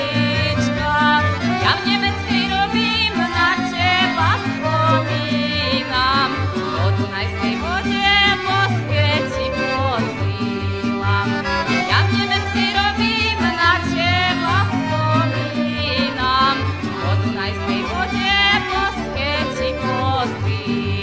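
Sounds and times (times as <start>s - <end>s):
folk band instrumental melody: 0.0s - 21.0s.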